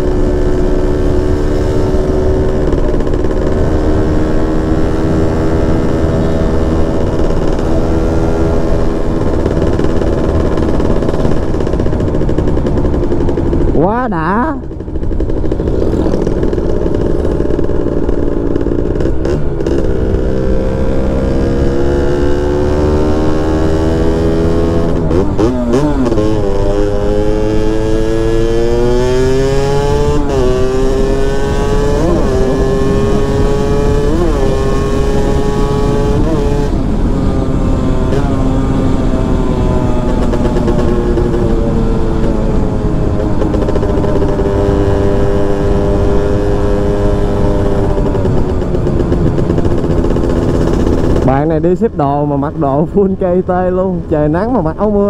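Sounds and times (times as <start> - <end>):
two-stroke motorcycle engine: 0.0 - 55.0.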